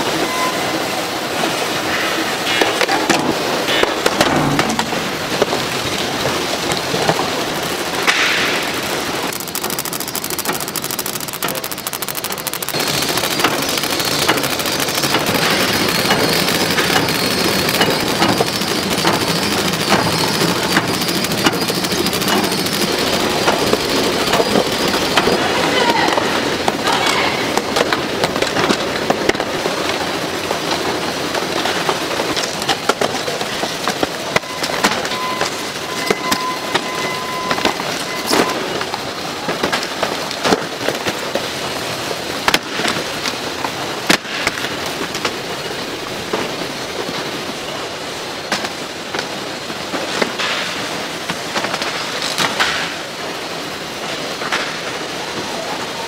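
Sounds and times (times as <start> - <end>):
packaging machinery rattling: 2.9 - 54.8.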